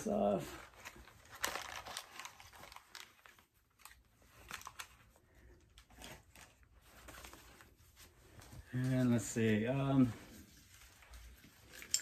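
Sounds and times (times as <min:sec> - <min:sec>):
clothing rustling: 0:00.0 - 0:12.0.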